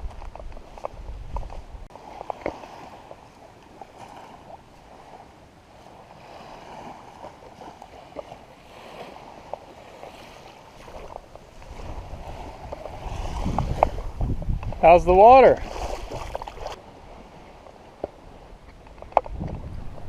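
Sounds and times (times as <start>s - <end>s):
small waves washing onto beach: 0.0s - 20.0s.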